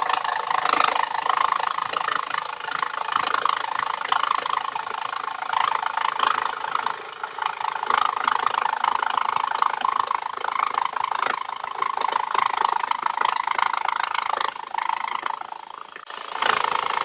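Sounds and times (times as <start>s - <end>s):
jigsaw cutting sheet metal: 0.0s - 17.0s.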